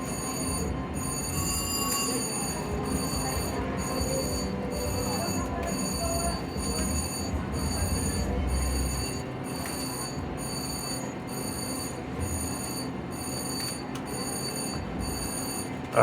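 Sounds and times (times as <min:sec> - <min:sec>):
constant background hum: 0:00.0 - 0:16.0
slot machine tones and chimes: 0:00.0 - 0:16.0.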